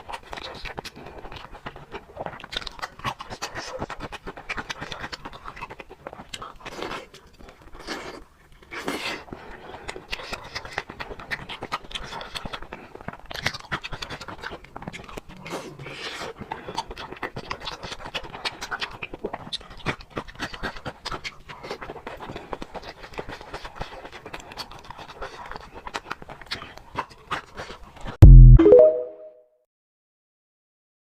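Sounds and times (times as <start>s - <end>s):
person chewing wetly: 0.0s - 28.1s.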